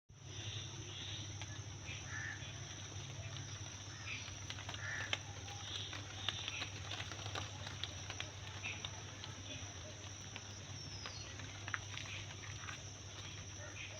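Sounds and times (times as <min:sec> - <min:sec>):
birds calling: 0:00.2 - 0:13.9.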